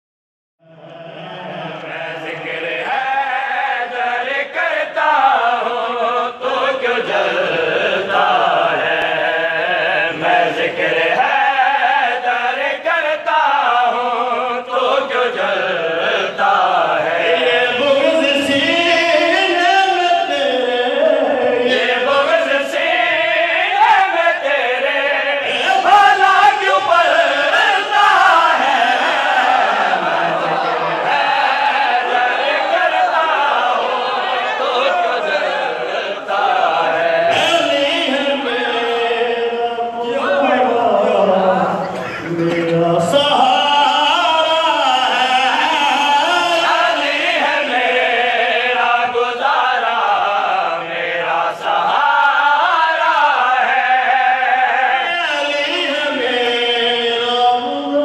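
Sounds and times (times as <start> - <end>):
men chanting devotional song: 0.6 - 58.0.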